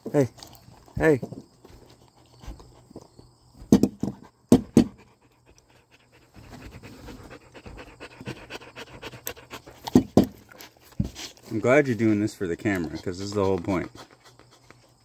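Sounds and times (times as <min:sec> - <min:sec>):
dog panting: 0:01.8 - 0:03.2, 0:04.2 - 0:15.0.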